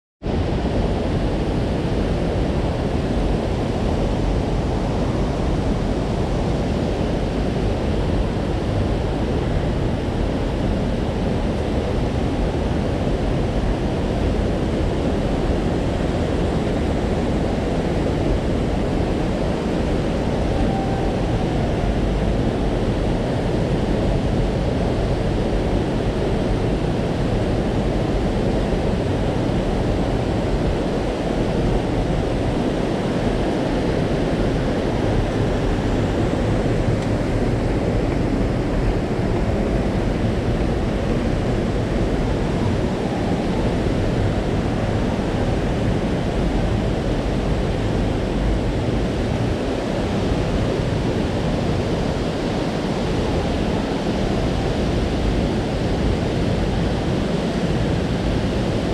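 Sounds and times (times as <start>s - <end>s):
stream rushing over cascades: 0.3s - 58.9s.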